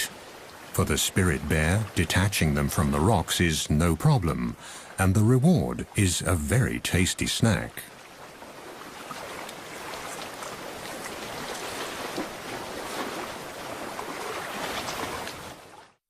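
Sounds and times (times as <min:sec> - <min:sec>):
sea water washing over rocks: 0:00.0 - 0:15.8.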